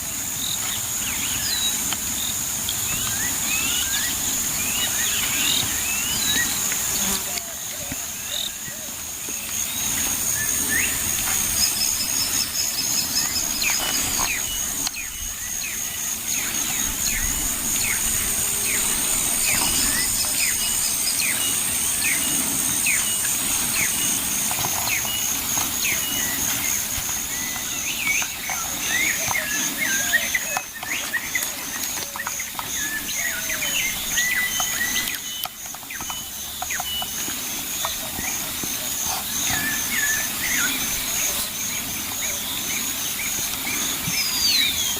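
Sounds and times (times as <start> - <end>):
pulsing insect trill: 0.0 - 44.9.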